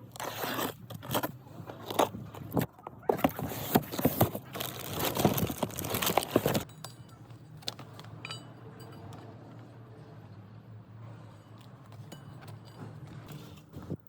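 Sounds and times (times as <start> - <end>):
tools and metal parts clattering: 0.0 - 9.9, 11.0 - 14.0.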